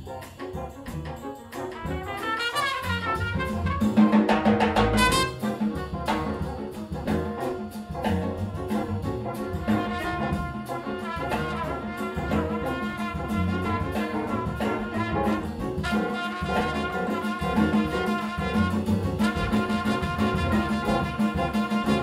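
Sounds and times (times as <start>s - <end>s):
big band jazz: 0.0s - 22.0s
trumpet solo: 0.1s - 22.0s.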